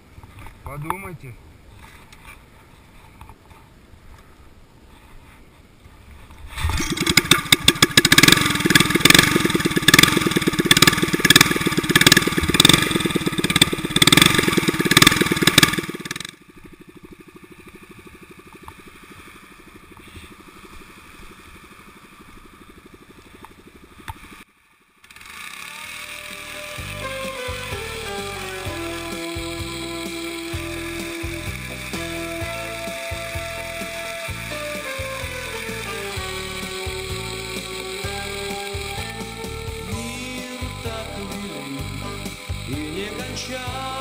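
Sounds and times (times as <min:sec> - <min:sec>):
single-cylinder engine running: 0:06.6 - 0:44.0.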